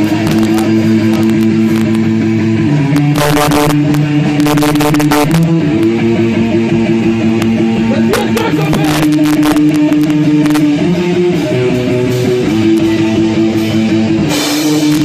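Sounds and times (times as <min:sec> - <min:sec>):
bass: 0:00.0 - 0:15.0
electric guitar chords: 0:00.0 - 0:15.0.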